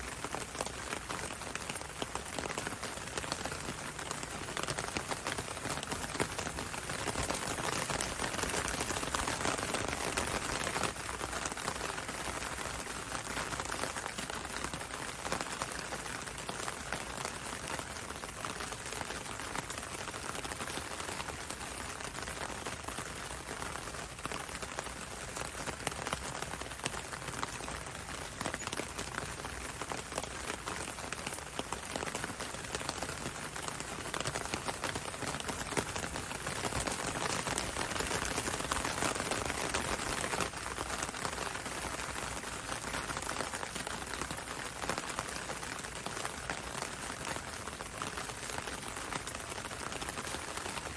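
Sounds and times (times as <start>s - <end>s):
gentle rain on window and road: 0.0s - 50.9s
raindrop ticks: 0.2s - 23.1s, 24.0s - 50.9s.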